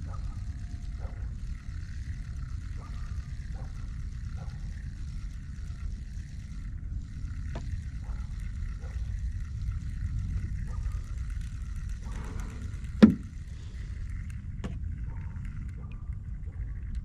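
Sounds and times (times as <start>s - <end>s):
gear clicks and knocks: 0.0s - 17.0s
steady low rumble: 0.0s - 17.0s.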